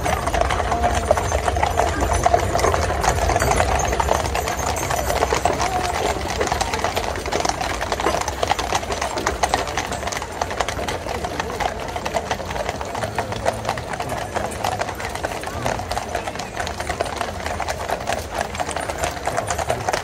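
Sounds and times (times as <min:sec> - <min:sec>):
horse hooves clip-clopping on road: 0:00.0 - 0:20.0
murmur of crowd voices: 0:00.0 - 0:20.0
rolling wheels rumbling: 0:00.0 - 0:20.0.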